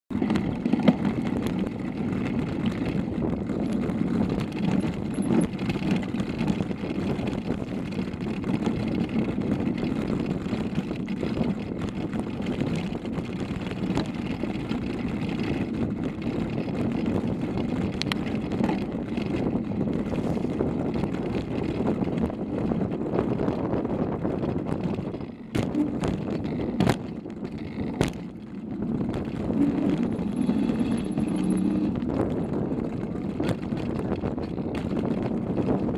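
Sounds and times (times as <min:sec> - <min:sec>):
bike frame and handlebar rattle: 0:00.1 - 0:35.9
bike tyres rumbling on gravel: 0:00.1 - 0:35.9.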